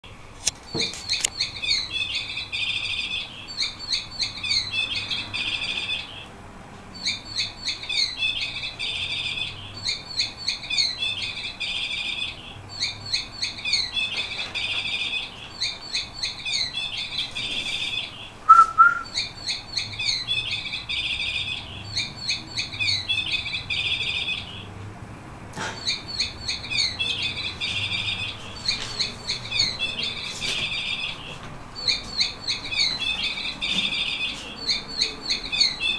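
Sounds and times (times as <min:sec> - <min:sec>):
canary singing trills: 0:00.6 - 0:24.8, 0:25.6 - 0:35.9.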